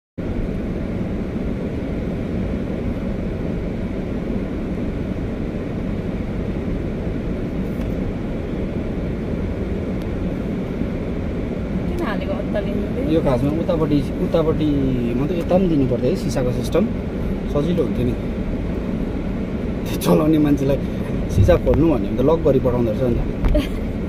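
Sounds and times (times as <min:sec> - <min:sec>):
car interior road and engine rumble: 0:00.2 - 0:24.0.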